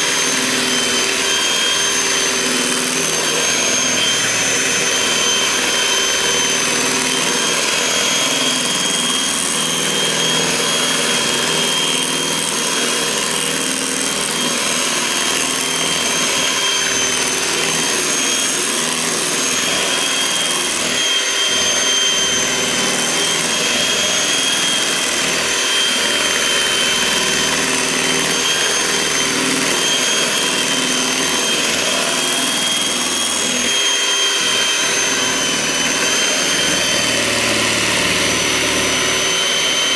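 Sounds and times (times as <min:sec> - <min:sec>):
appliance motor whining: 0:00.0 - 0:39.9.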